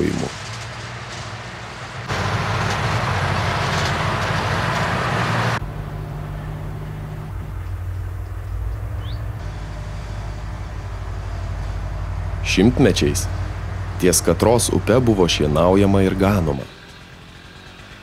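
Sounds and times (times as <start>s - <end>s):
machinery engine hum: 0.0s - 18.0s.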